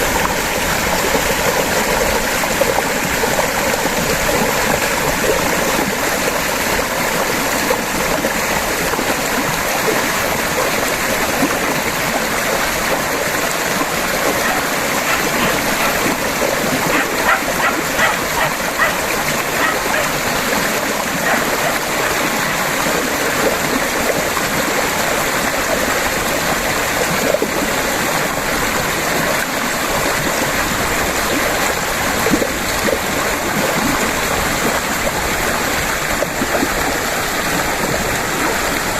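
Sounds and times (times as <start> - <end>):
river water babbling over rocks: 0.0 - 38.9.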